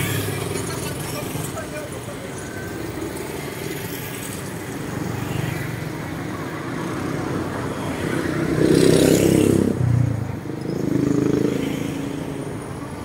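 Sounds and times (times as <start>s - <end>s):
traffic hum: 0.0s - 13.0s
vehicle engines passing: 0.0s - 13.0s.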